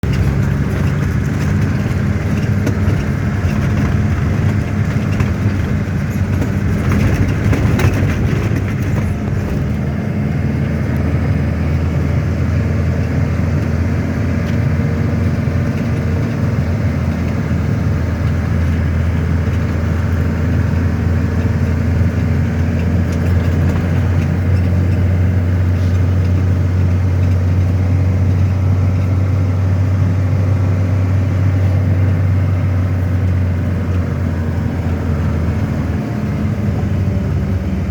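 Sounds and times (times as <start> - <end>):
car engine and road rumble: 0.0 - 37.9.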